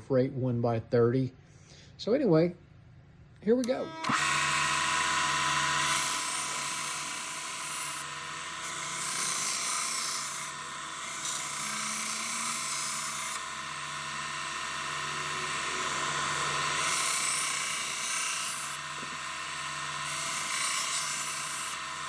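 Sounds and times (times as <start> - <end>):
belt grinder motor whine: 3.6 - 22.0.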